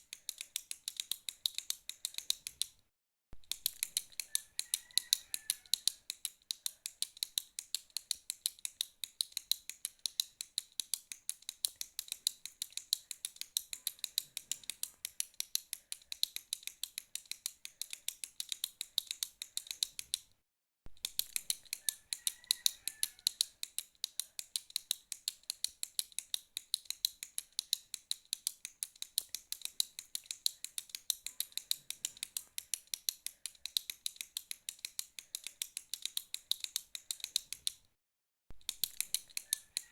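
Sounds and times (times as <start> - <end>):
retractable pen clicking: 0.0 - 2.8, 3.4 - 20.3, 21.0 - 37.9, 38.6 - 39.9.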